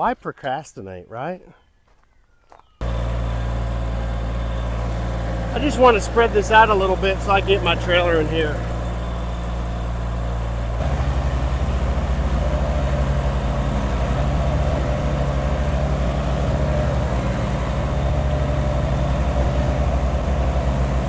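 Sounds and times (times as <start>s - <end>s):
skid steer engine running: 2.8s - 21.0s.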